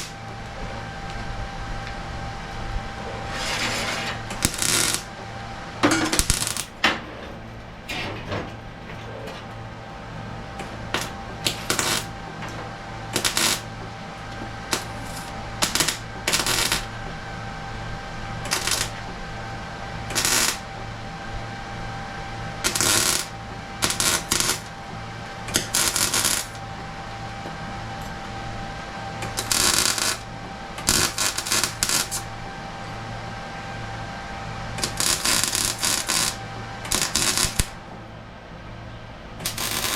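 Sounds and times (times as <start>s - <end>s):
steady shop hum: 0.0s - 39.9s.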